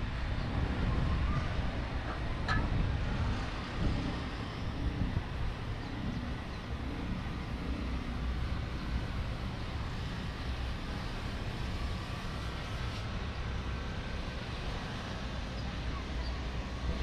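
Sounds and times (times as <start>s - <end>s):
urban street low rumble: 0.0s - 17.0s.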